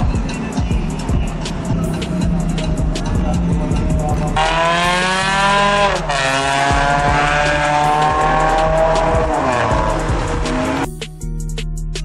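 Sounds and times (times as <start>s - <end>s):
car pulling away: 0.0s - 10.9s.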